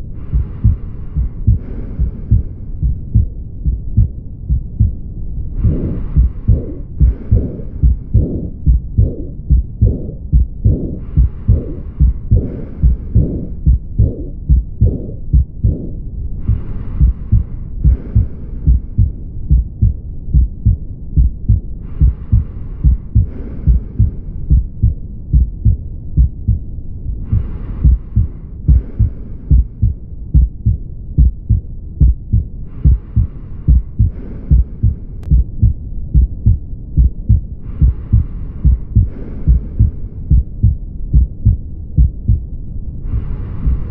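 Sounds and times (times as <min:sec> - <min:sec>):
heartbeat: 0:00.0 - 0:43.9.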